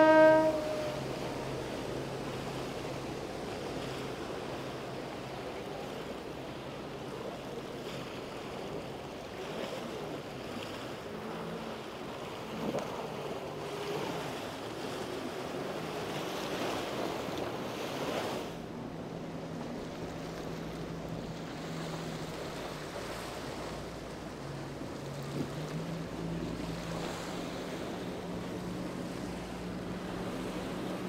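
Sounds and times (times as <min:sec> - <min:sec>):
low engine hum: 0:00.0 - 0:31.0
rushing water from boat wake: 0:00.0 - 0:31.0.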